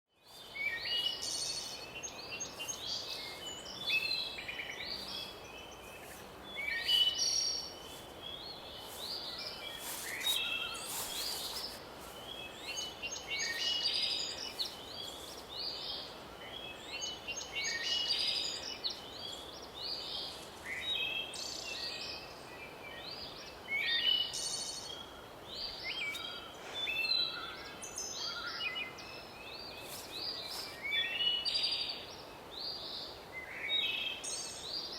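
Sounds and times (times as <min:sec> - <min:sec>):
faint background hiss: 0:00.2 - 0:34.9
songbirds chirping and trilling: 0:00.2 - 0:34.9.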